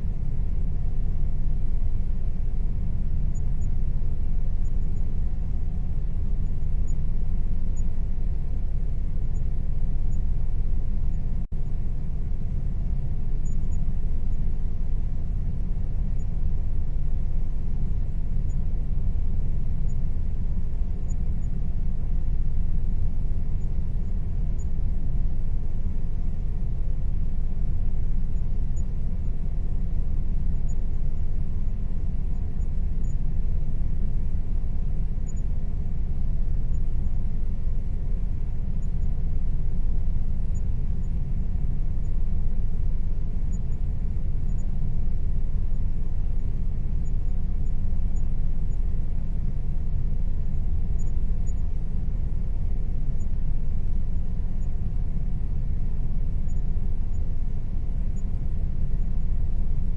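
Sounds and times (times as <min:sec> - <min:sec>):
air conditioner drone: 0:00.0 - 0:59.9.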